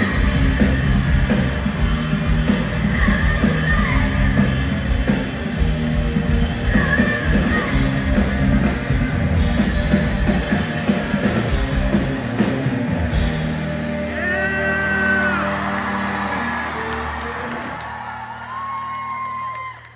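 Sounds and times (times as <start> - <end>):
live rock band playing: 0.0 - 17.8.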